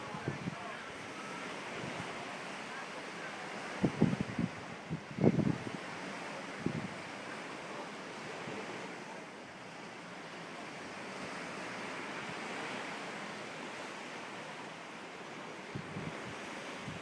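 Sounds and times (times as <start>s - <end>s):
rushing water: 0.0s - 17.0s
wind: 0.0s - 17.0s.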